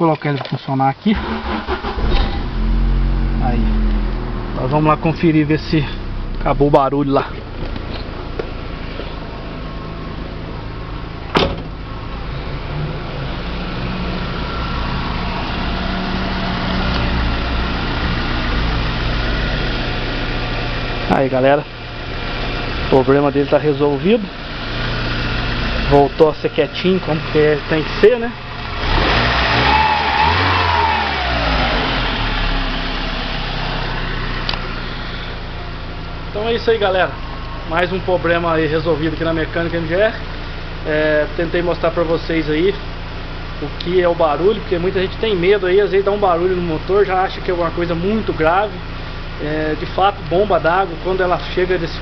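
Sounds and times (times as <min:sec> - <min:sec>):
car engine idling: 0:01.1 - 0:52.0.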